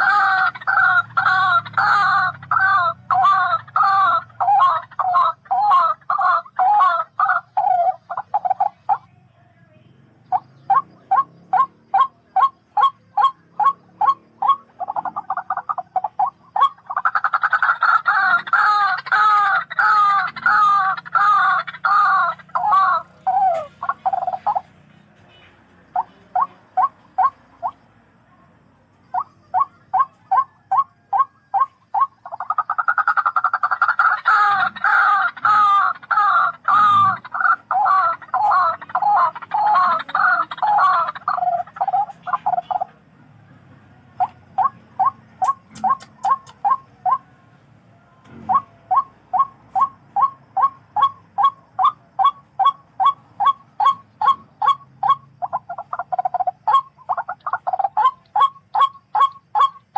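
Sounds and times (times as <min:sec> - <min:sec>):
rail bird calling: 0:00.0 - 0:59.9.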